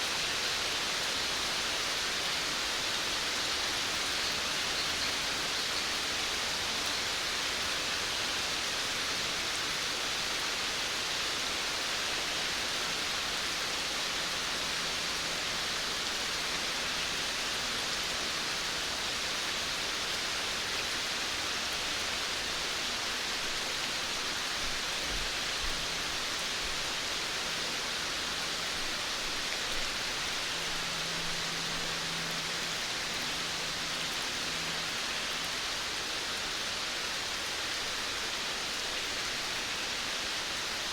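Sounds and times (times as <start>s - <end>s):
rain falling on a veranda: 0.0s - 40.9s.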